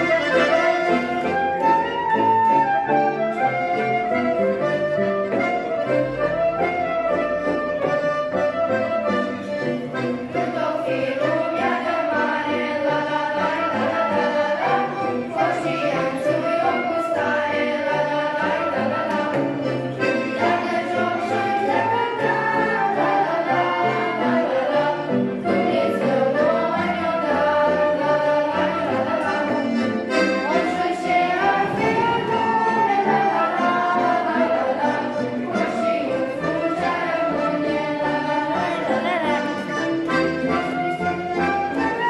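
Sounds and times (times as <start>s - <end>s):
children singing: 0.0s - 4.8s, 9.5s - 42.0s
electronic keyboard accompaniment: 0.0s - 42.0s.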